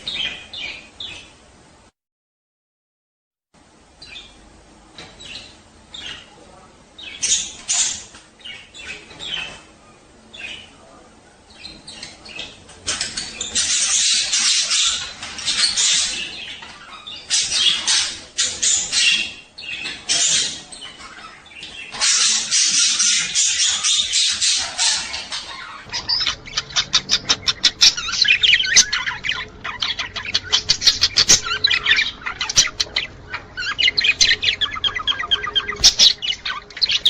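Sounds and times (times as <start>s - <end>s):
budgerigars warbling and chattering: 0.0s - 1.4s, 5.0s - 37.0s.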